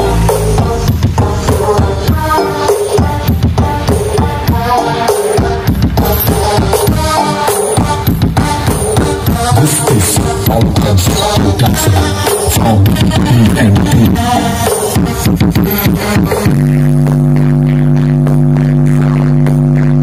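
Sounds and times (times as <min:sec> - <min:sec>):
loud music with drums: 0:00.0 - 0:20.0.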